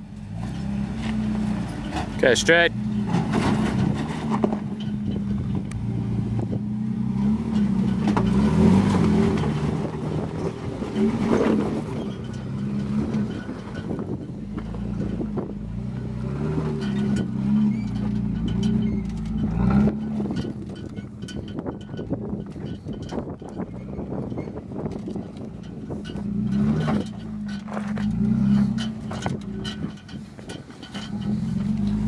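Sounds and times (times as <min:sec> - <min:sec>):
pickup engine at low revs: 0:00.0 - 0:32.0.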